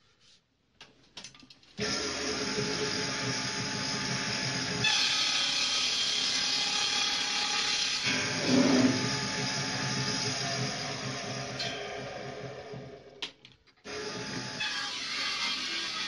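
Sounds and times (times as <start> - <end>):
woodworking machine whine: 1.8 - 13.3, 13.9 - 16.0.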